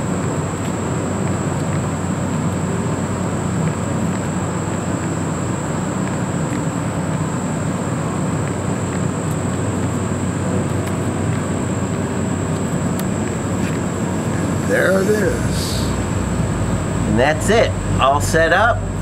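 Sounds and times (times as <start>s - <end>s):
high-pitched whine: 0.0s - 19.0s
low mechanical rumble: 0.0s - 19.0s.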